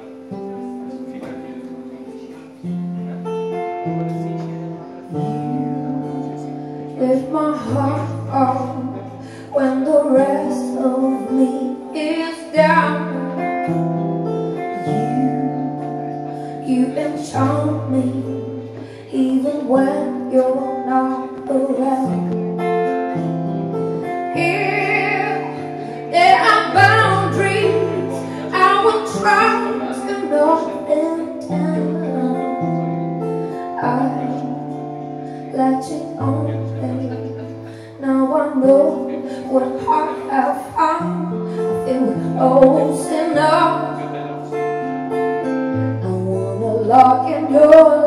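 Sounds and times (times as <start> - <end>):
guitar playing chords: 0.0 - 48.0.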